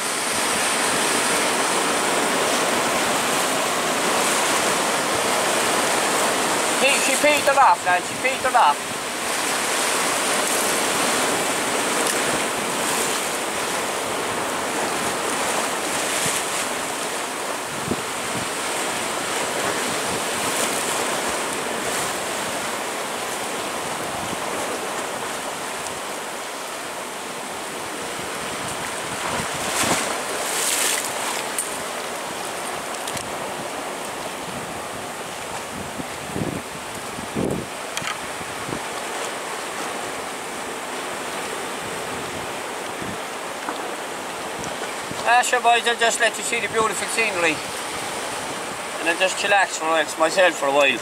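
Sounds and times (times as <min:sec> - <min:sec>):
surf washing over rocks: 0:00.0 - 0:51.0.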